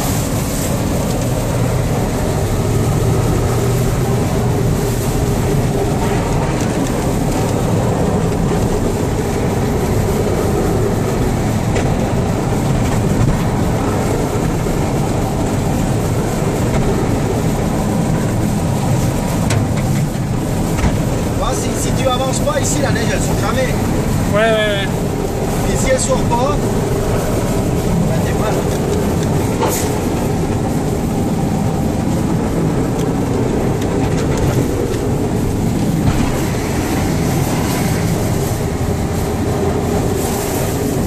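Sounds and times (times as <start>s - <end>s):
plow blade rumbling through snow: 0.0s - 41.0s
truck engine drone: 0.0s - 41.0s.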